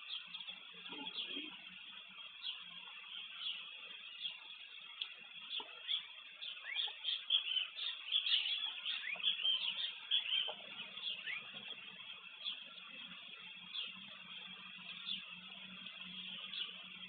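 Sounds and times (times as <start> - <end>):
high chirping calls: 0.0 - 17.0.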